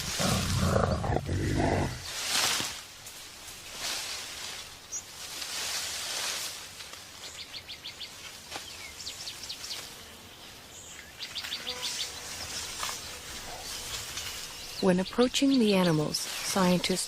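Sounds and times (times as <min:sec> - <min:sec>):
insects hissing: 0:00.0 - 0:17.0.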